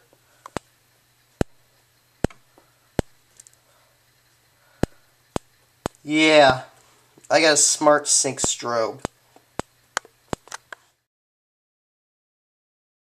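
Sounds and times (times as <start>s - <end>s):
sharp electrical clicks: 0.0s - 10.9s.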